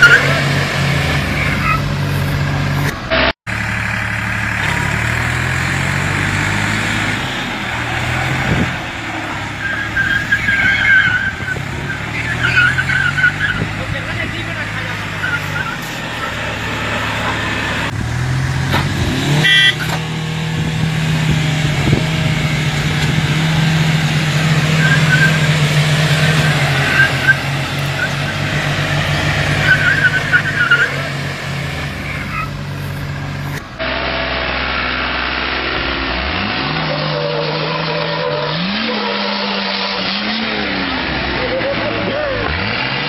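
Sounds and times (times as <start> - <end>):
engines running under load: 0.0 - 43.0
vehicle engine revving: 0.0 - 43.0.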